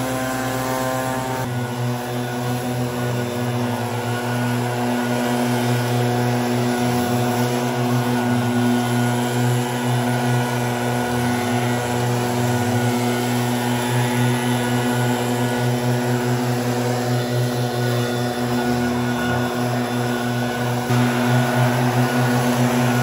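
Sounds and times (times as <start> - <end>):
air rushing from blower: 0.0 - 23.0
leaf blower engine running: 0.0 - 23.0.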